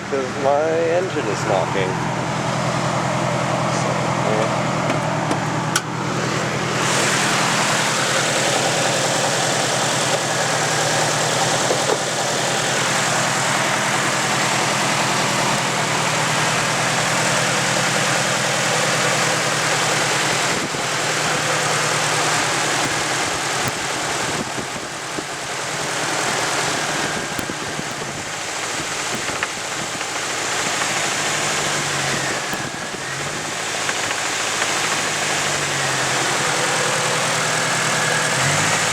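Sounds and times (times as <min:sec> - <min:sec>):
engine running with rod knock: 0:00.0 - 0:38.9.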